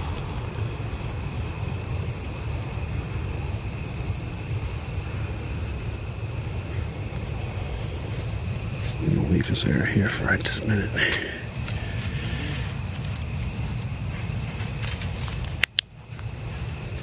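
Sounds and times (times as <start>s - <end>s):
crickets trilling: 0.0s - 17.0s
high insect buzzes: 0.0s - 17.0s.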